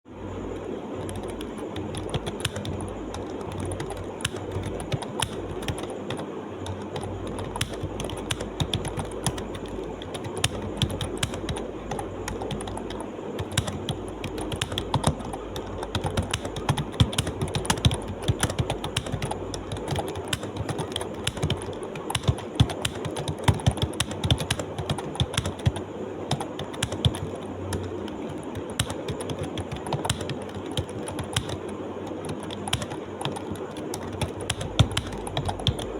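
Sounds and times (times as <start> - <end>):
typing on computer keyboard: 0.5 - 35.9.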